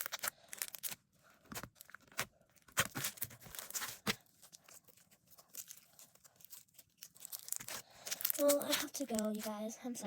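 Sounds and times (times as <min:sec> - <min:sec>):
slime squished by hands: 0:00.0 - 0:09.7.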